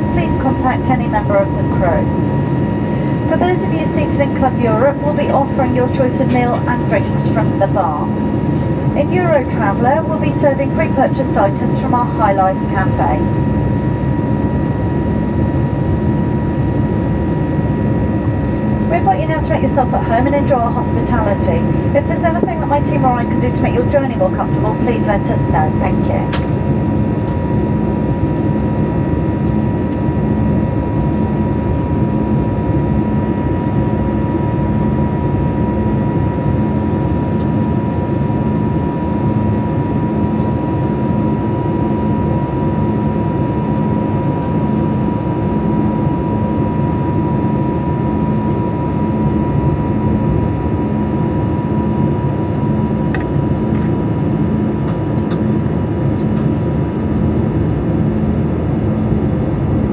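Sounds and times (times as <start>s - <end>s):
jet engines drone and rushing air: 0.0s - 59.9s
pulsing low hum: 0.0s - 59.9s.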